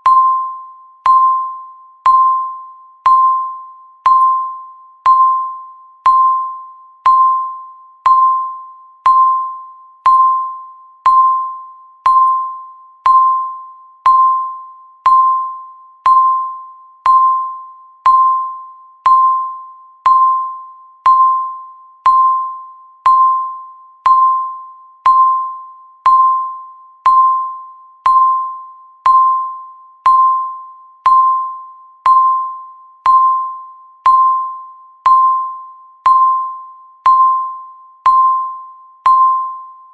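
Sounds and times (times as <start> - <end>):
timer beeps: 0.0 - 39.9.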